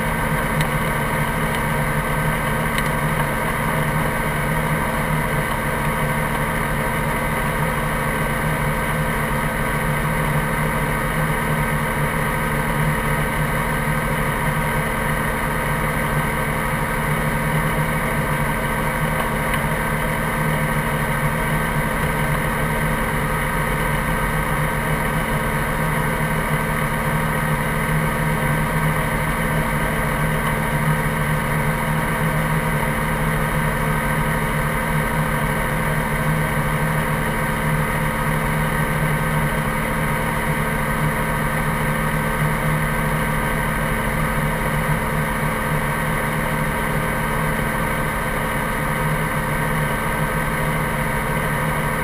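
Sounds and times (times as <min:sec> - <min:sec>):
helicopter engine and rotor running: 0:00.0 - 0:52.0.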